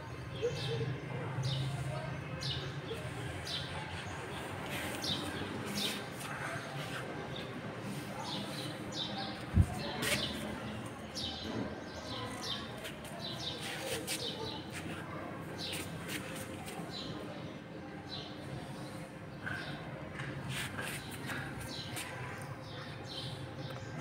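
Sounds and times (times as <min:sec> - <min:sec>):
outdoor background noise: 0:00.0 - 0:24.0
small birds chirping: 0:00.1 - 0:24.0.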